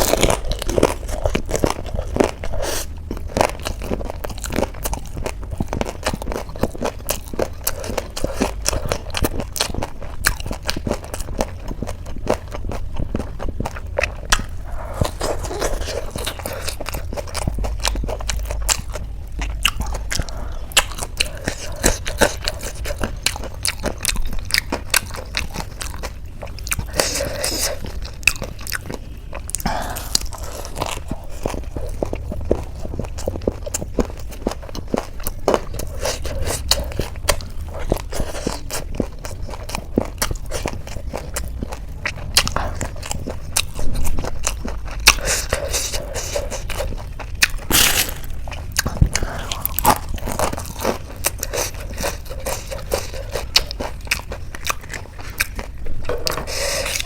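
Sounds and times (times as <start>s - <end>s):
person chewing crunchy snacks: 0.0s - 57.0s.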